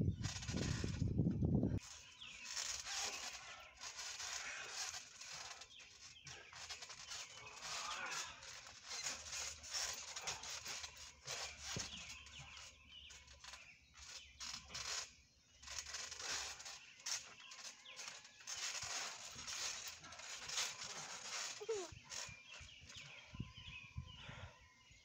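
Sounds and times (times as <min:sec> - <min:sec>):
bodies thumping on trampoline: 0:00.2 - 0:15.1, 0:15.7 - 0:23.1.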